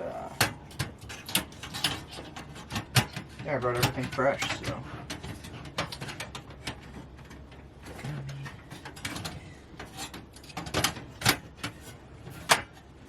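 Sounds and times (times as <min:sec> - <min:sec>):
items being handled and set down: 0:00.4 - 0:13.0.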